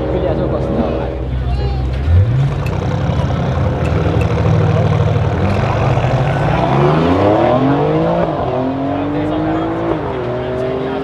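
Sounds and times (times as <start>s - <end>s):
car engines idling: 0.0s - 11.0s
engine revving: 2.0s - 11.0s.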